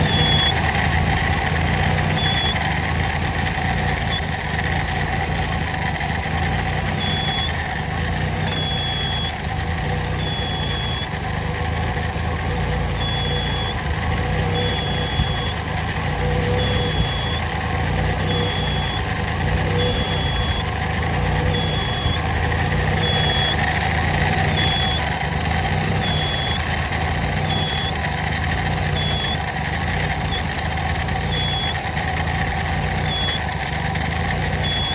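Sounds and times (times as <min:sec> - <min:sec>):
small engine surging: 0:00.0 - 0:34.9.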